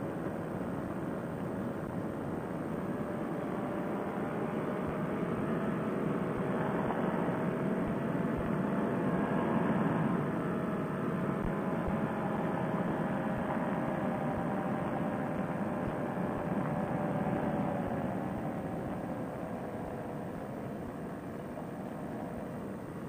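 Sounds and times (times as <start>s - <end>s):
paramotor engine and propeller: 0.0s - 23.0s.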